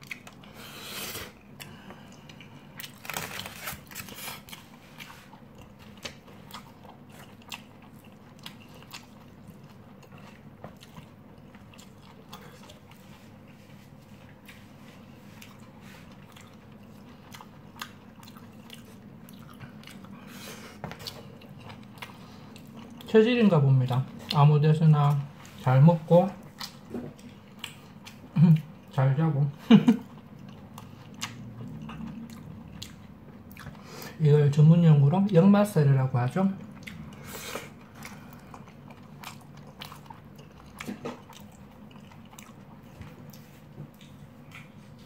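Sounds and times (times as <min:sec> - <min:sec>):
person chewing: 0:00.0 - 0:23.2, 0:23.8 - 0:29.0, 0:29.9 - 0:34.2, 0:36.6 - 0:45.0
steady low hum: 0:00.0 - 0:45.0.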